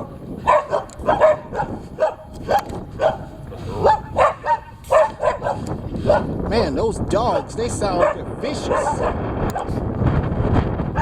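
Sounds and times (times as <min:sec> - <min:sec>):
dogs barking: 0:00.0 - 0:06.4, 0:07.3 - 0:09.8.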